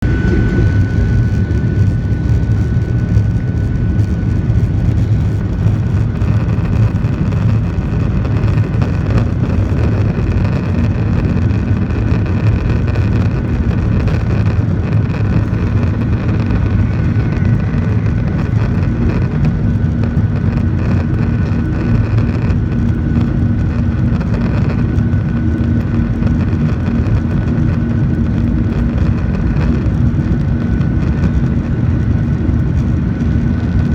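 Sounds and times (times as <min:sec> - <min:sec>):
faint high whine: 0:00.0 - 0:33.9
jet engine rumble: 0:00.0 - 0:33.9.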